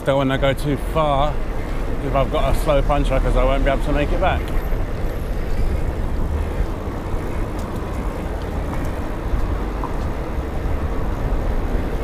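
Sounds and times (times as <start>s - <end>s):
tyre and wind rumble: 0.0s - 12.0s
vehicle engine: 0.0s - 12.0s.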